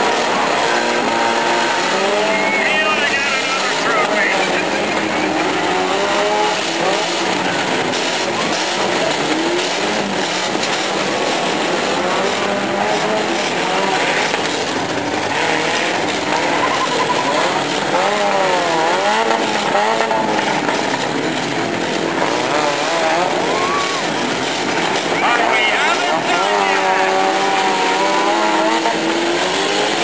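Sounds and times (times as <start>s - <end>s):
car engines revving: 0.0s - 30.0s
steady engine noise: 0.0s - 30.0s.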